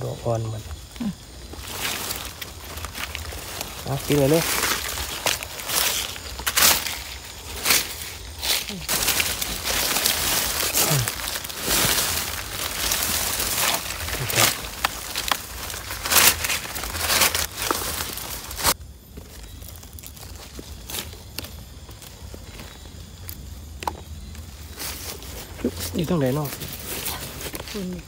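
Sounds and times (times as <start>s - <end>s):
dry leaves crackling and rustling: 0.2s - 28.0s.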